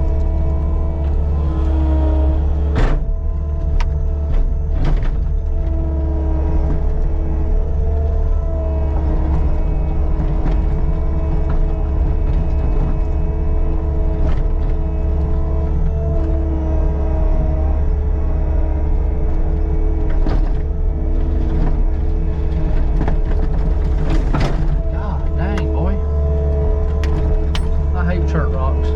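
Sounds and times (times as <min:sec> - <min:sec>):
diesel engine running: 0:00.0 - 0:28.9
hydraulic whine: 0:00.0 - 0:28.9.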